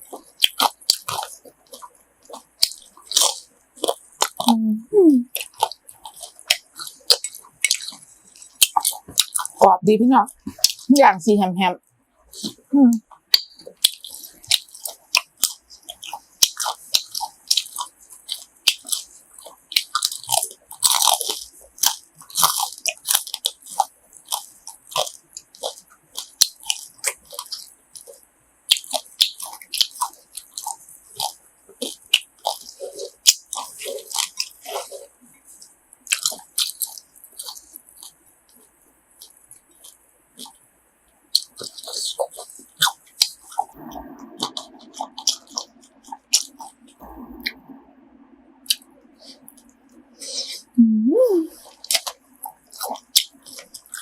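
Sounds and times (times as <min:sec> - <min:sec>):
chewing crunchy food: 0:00.0 - 0:04.6, 0:05.2 - 0:11.0, 0:11.8 - 0:47.9, 0:48.6 - 0:50.8, 0:51.5 - 0:54.0.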